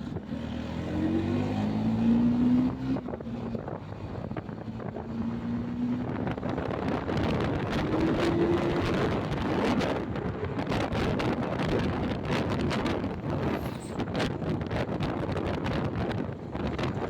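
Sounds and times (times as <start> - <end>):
wind over microphone: 0.0 - 17.0.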